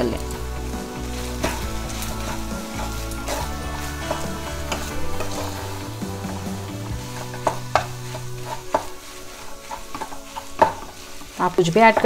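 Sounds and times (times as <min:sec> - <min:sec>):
oil sizzling: 0:00.0 - 0:12.0
spatula scraping and knocking pan: 0:00.2 - 0:12.0
spatula stirring noodles: 0:00.2 - 0:12.0.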